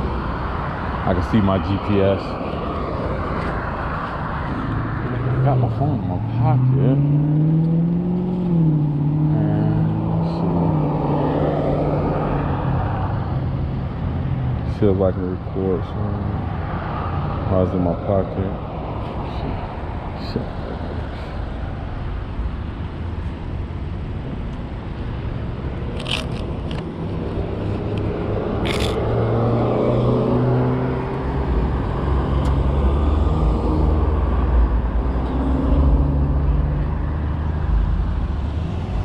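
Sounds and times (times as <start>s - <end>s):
low vehicle hum: 0.0s - 39.0s
wind and road noise: 0.0s - 39.0s.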